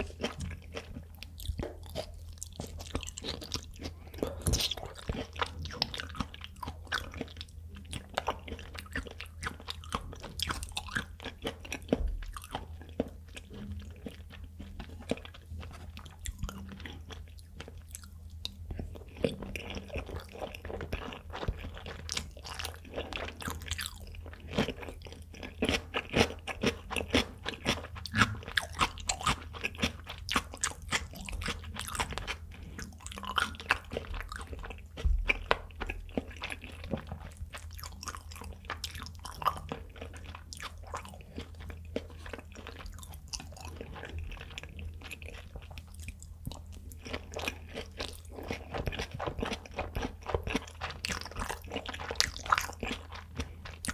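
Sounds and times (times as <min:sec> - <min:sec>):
chewing with mouth clicks: 0:00.0 - 0:53.9
low steady hum: 0:00.0 - 0:53.9.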